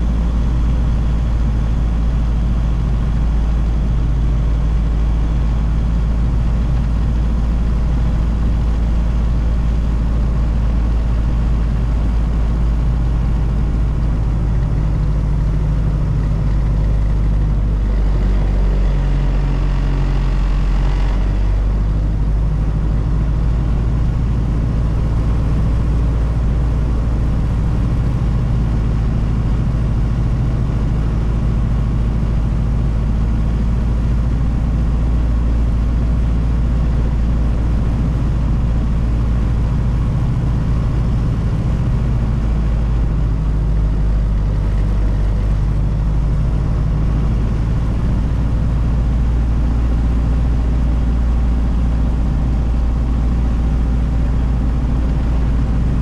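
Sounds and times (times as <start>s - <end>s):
car engine running: 0.0s - 56.0s
road noise: 0.0s - 56.0s.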